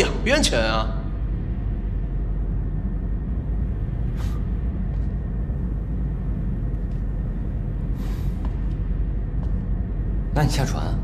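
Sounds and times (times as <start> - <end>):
low ambient hum: 0.0 - 11.0.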